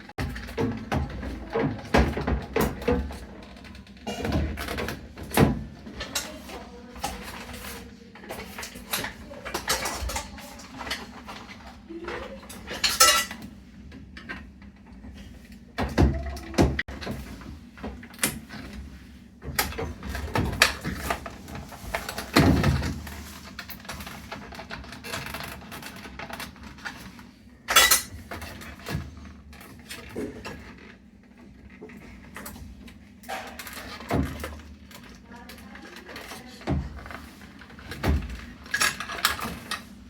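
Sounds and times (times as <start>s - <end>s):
plastic and metal parts clattering: 0.0s - 13.5s, 14.1s - 40.0s.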